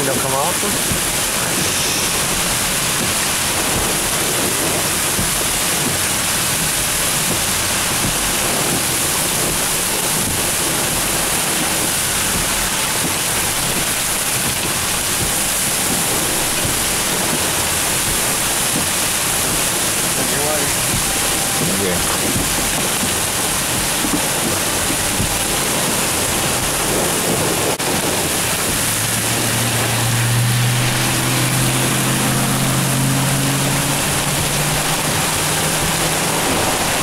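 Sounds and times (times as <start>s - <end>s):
heavy rain and wind: 0.0s - 37.0s.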